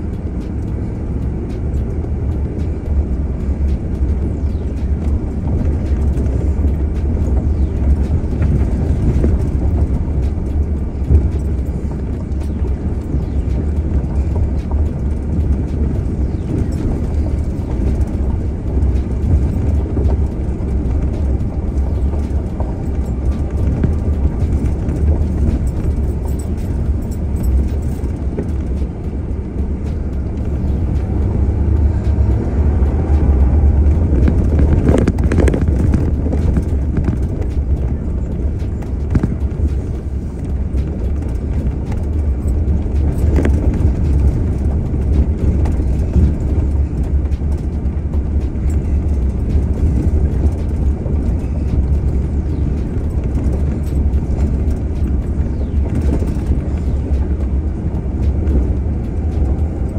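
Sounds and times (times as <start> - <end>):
vehicle rumbling on dirt: 0.0 - 59.9.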